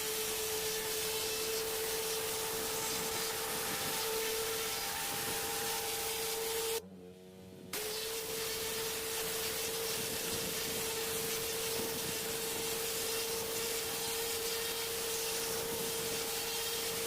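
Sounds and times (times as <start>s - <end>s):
pressure washer machine hum: 0.0s - 6.8s, 7.8s - 17.0s
water jet hissing on stone: 0.0s - 6.8s, 7.8s - 17.0s.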